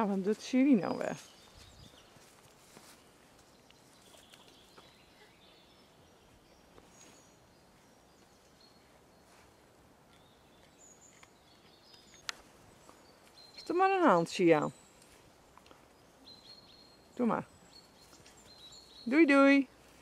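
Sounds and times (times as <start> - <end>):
distant bird chirps: 0.8 - 19.8.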